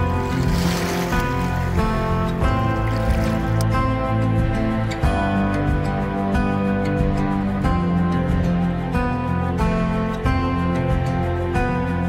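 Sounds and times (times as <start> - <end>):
sustained instrumental chords: 0.0 - 11.6.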